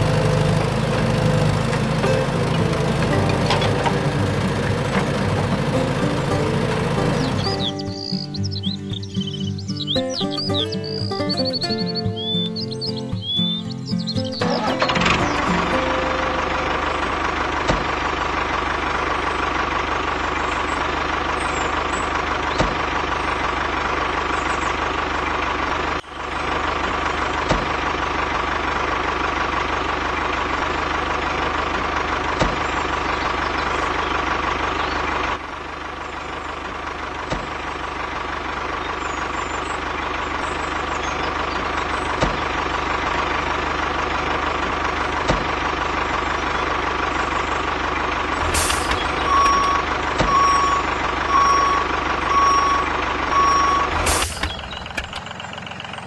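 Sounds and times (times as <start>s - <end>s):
engine-like drone with whine: 0.0s - 10.6s, 12.2s - 56.0s.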